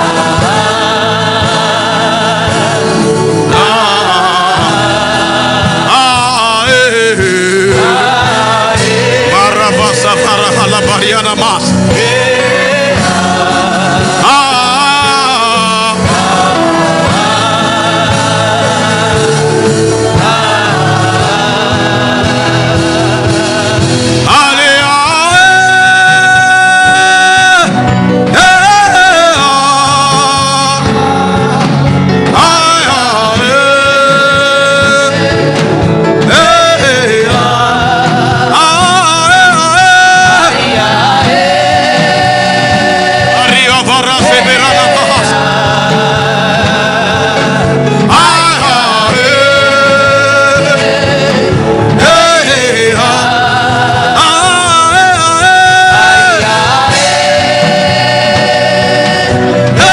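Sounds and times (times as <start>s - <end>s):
instrumental backing: 0.0s - 59.9s
person singing gospel: 0.0s - 59.9s.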